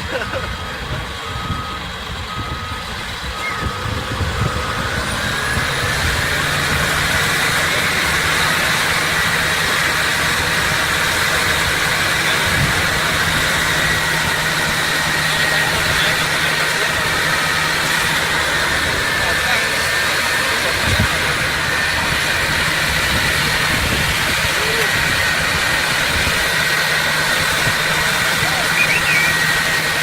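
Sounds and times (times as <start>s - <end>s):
heavy diesel engine with whine: 0.0s - 30.0s
reversing alarm beeping: 0.1s - 30.0s.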